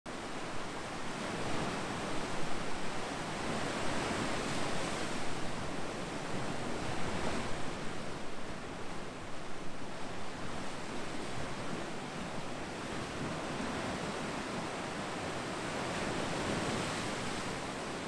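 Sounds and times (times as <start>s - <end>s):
ocean waves: 0.1s - 18.0s.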